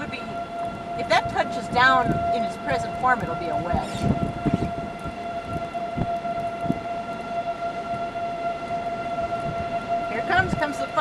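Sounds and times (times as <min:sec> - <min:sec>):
low rumbles: 0:00.0 - 0:11.0
warning siren steady tone: 0:00.0 - 0:11.0.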